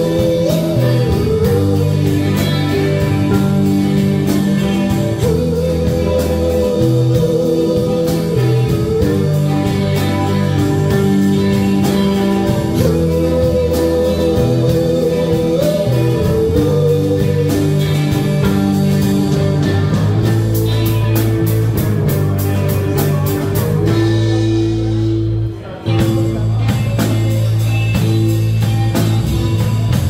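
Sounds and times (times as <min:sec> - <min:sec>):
drum kit: 0:00.0 - 0:30.0
electric bass: 0:00.0 - 0:30.0
electric guitar: 0:00.0 - 0:30.0.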